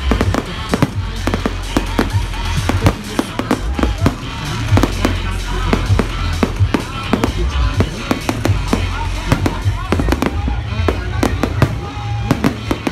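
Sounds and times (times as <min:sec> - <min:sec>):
fireworks bangs and crackles: 0:00.0 - 0:12.9
music: 0:00.0 - 0:12.9.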